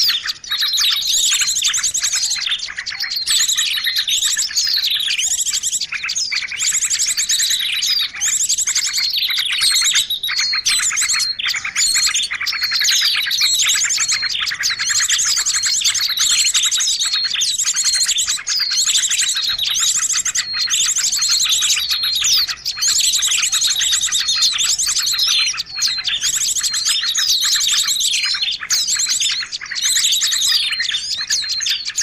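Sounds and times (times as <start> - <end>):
songbirds chirping and trilling: 0.0 - 32.0.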